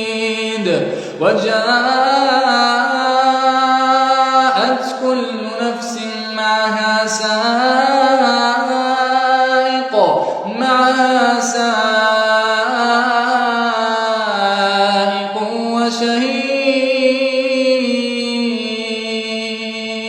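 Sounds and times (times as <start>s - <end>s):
man reciting melodically: 0.0s - 20.0s.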